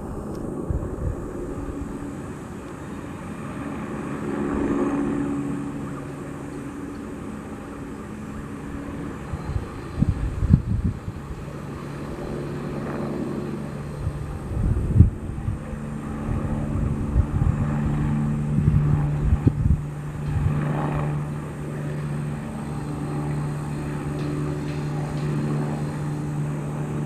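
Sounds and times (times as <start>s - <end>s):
aircraft engine humming: 0.0s - 27.0s
wind buffeting microphone: 0.0s - 27.0s.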